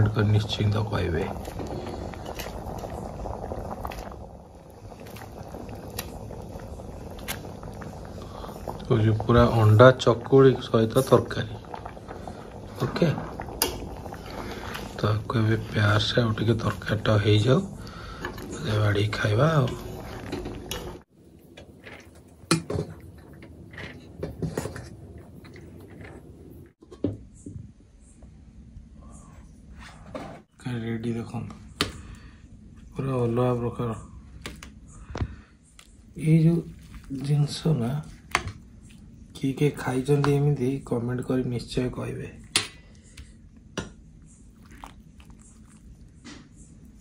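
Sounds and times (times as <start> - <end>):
gravy bubbling: 0.0 - 26.8, 32.8 - 47.0.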